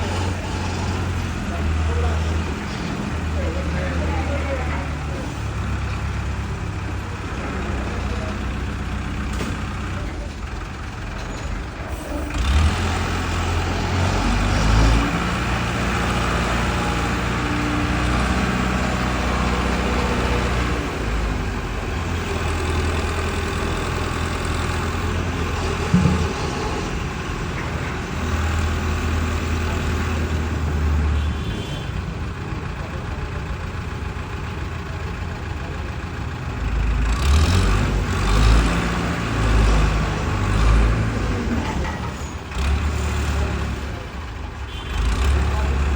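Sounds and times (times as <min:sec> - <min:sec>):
heavy engine humming: 0:00.0 - 0:45.9.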